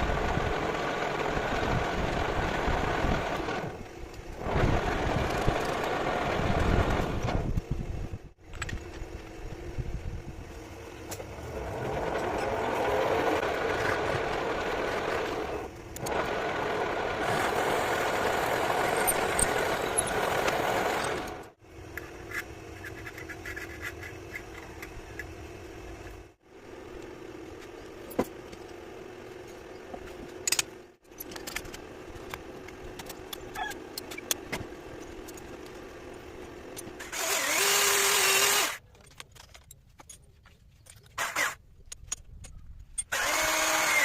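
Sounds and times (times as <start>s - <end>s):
loud steady metalworking tool noise: 0.0s - 7.9s, 10.3s - 38.8s, 43.0s - 44.0s.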